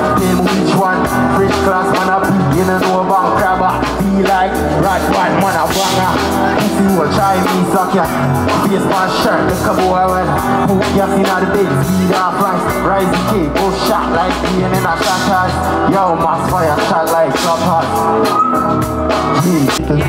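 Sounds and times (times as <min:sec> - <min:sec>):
person singing and rapping: 0:00.0 - 0:20.0
steady drum beat: 0:00.0 - 0:20.0.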